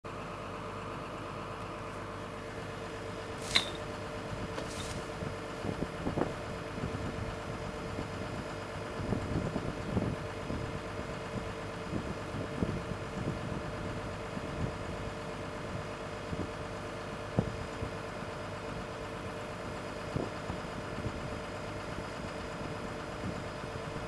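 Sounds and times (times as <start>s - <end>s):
excavator engine running: 0.1s - 24.0s.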